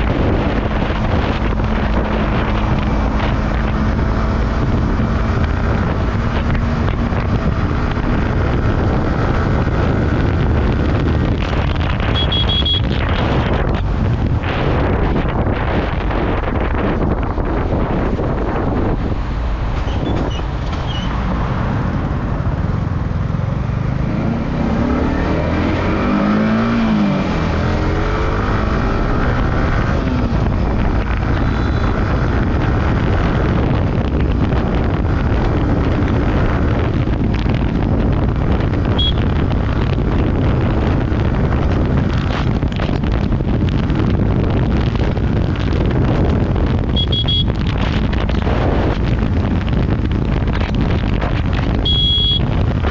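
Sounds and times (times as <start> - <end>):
motorcycle engine: 0.0 - 52.9
road noise: 0.0 - 52.9
wind rush over microphone: 0.0 - 52.9.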